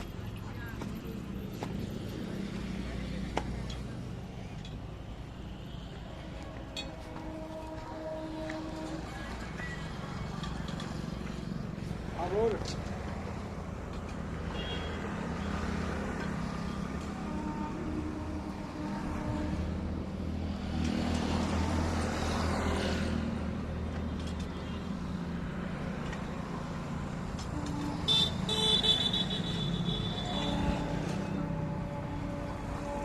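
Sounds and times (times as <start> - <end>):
traffic engine rumble: 0.0 - 33.0.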